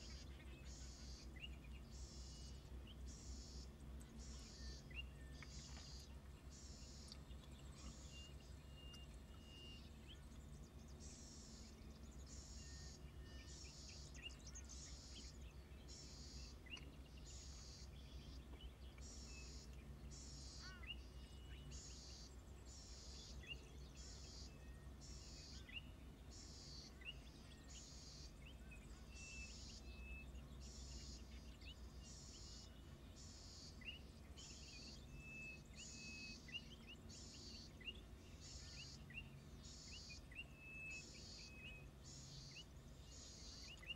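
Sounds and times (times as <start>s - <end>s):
low steady rumble: 0.0s - 43.9s
small birds chirping: 0.0s - 43.9s.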